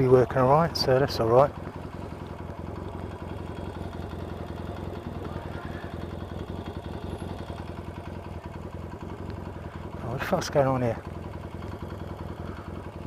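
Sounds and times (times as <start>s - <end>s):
engine tapping knock: 0.0s - 13.0s
motorcycle engine running: 0.0s - 13.0s.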